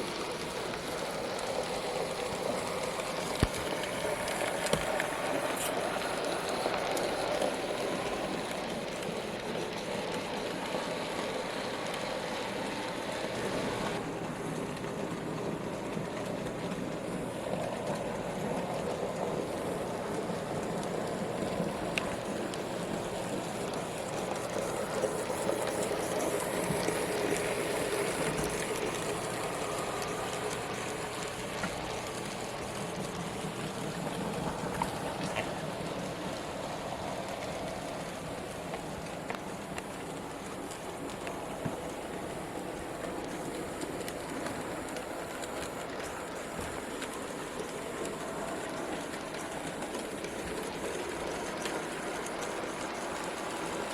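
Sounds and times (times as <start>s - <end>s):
model train motors whirring: 0.0s - 14.4s, 15.4s - 53.9s
wheels rolling on track: 0.0s - 53.9s.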